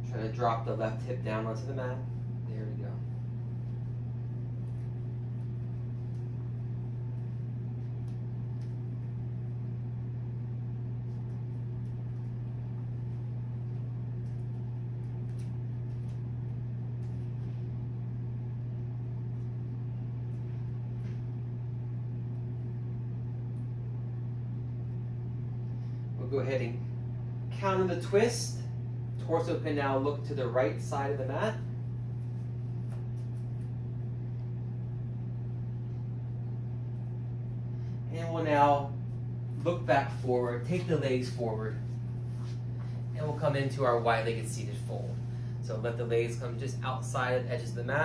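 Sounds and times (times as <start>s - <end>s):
low room hum: 0.0s - 48.0s.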